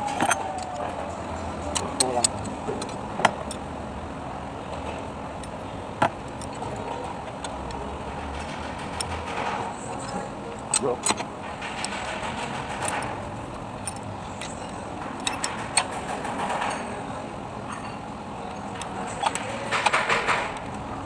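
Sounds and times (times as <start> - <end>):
metal tools clicking and clinking: 0.0 - 3.7, 4.8 - 20.8
steady background hum: 0.0 - 21.0.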